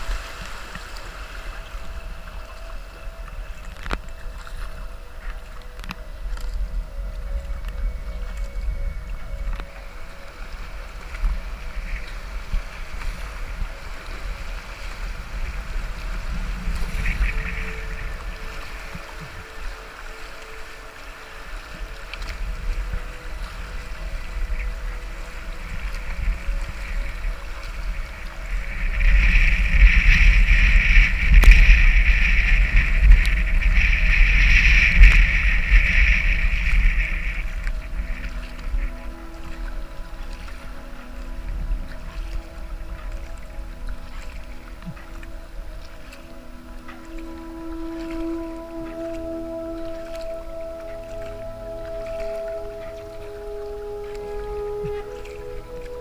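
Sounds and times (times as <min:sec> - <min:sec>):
paddle splashes: 0:00.0 - 0:56.0
river water rushing and splashing: 0:00.0 - 0:56.0
wind rumbling on microphone: 0:00.0 - 0:56.0.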